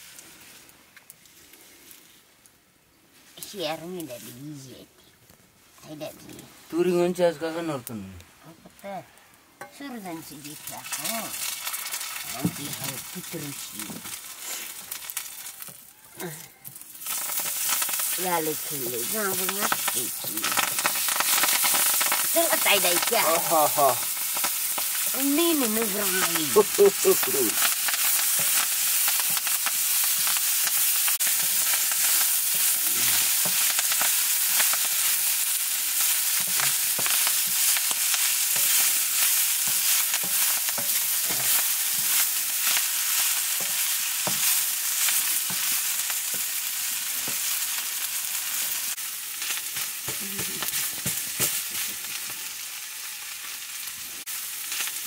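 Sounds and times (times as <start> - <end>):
greens sizzling in a wok: 0.0 - 5.0, 5.6 - 55.0.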